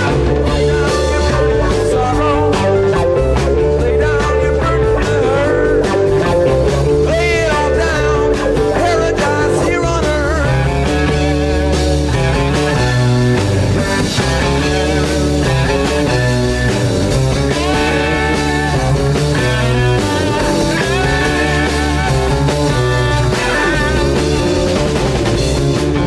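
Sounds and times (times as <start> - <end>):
bass and drums: 0.0 - 26.0
electric guitar with bent notes: 0.0 - 26.0.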